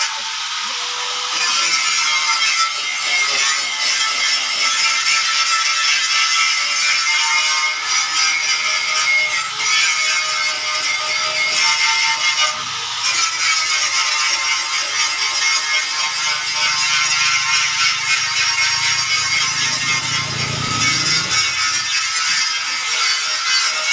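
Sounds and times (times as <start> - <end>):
angle grinder on metal: 0.0 - 23.9.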